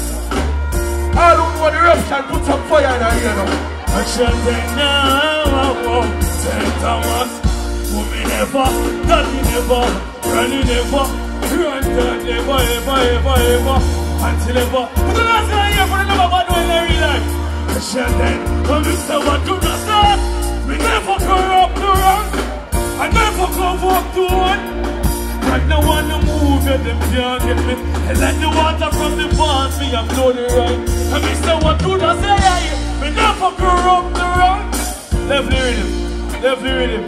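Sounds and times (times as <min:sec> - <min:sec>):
dancehall music with heavy bass: 0:00.0 - 0:37.0
man singing into a microphone: 0:00.6 - 0:37.0.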